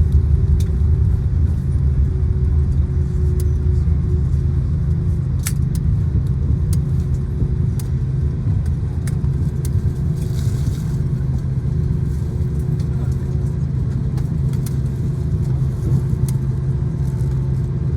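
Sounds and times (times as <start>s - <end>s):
airplane low rumble: 0.0s - 17.9s.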